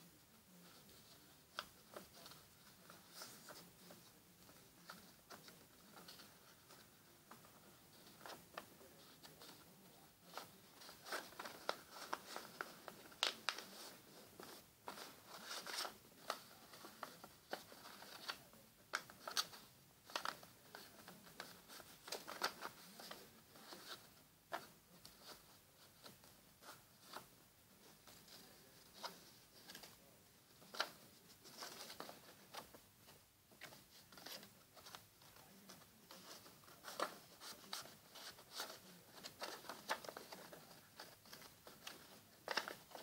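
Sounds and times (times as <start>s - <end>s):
paper crinkling and rustling: 0.5s - 43.0s.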